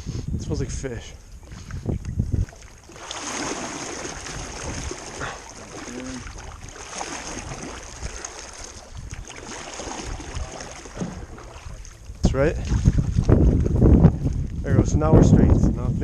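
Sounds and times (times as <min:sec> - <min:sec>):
water rushing around canoe: 0:01.5 - 0:14.4.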